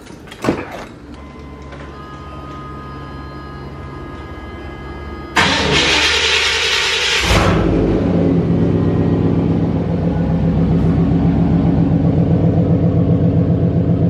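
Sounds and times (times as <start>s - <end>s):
truck engine idling: 1.9s - 14.0s.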